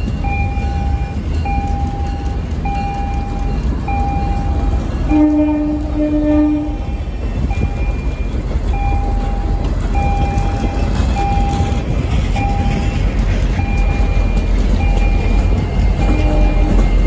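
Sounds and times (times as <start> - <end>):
diesel locomotive engine: 0.0 - 17.0
train wheels rumbling on rail: 0.0 - 17.0.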